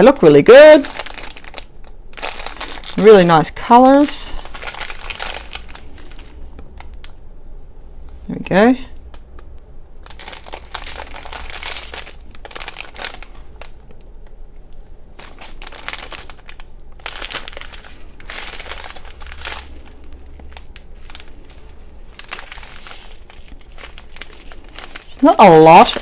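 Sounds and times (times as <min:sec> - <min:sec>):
plastic bags crinkling: 0:00.0 - 0:07.2, 0:10.0 - 0:14.1, 0:14.8 - 0:26.0.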